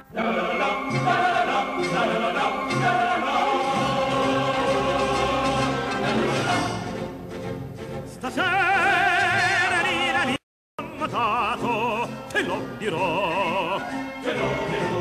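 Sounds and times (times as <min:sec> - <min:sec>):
operatic voice singing: 0:00.0 - 0:06.9, 0:08.1 - 0:15.0
musical accompaniment: 0:00.0 - 0:15.0.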